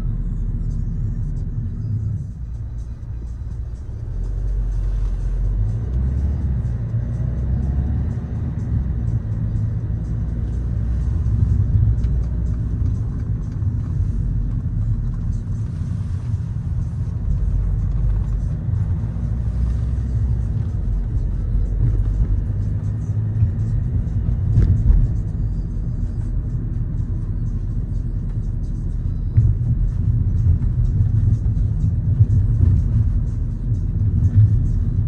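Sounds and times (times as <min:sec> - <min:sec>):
road rumble inside car: 0:00.0 - 0:35.0.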